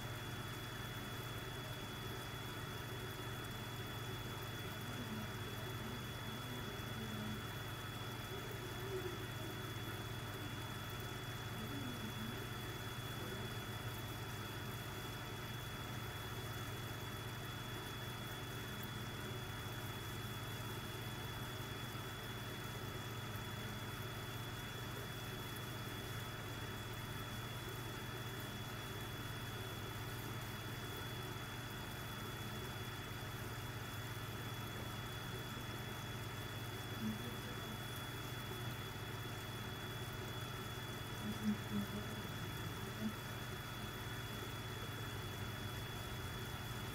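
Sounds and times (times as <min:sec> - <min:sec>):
aquarium air pump humming: 0:00.0 - 0:46.9.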